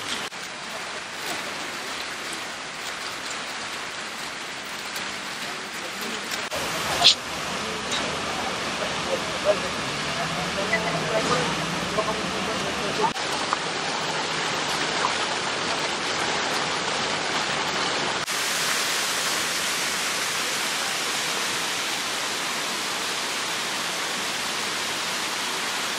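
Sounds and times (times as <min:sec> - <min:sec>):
fountain water cascading: 0:00.0 - 0:25.9.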